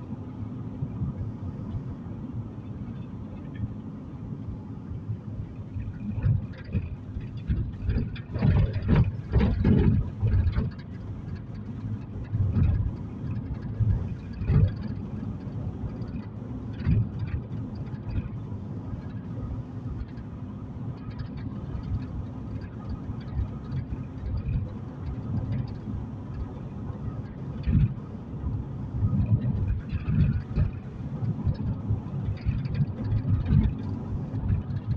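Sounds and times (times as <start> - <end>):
car cabin road noise rumble: 0.0 - 34.9.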